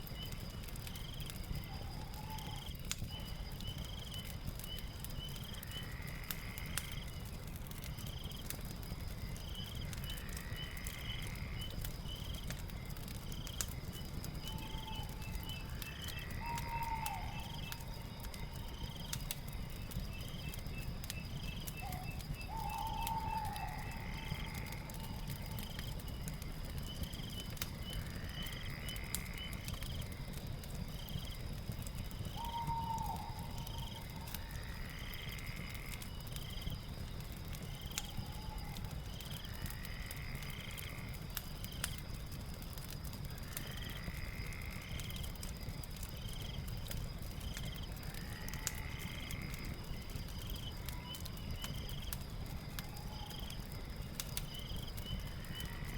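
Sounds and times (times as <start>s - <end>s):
fire rumbling and crackling: 0.0s - 55.9s
insects chirping: 0.0s - 55.9s.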